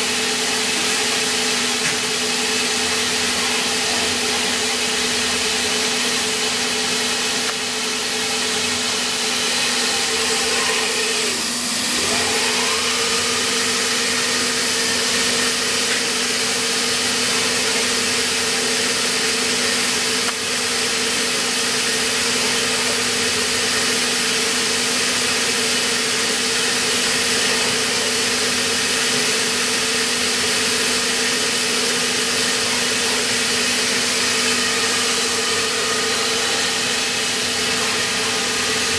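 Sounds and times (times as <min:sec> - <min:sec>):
milling machine humming: 0:00.0 - 0:38.9.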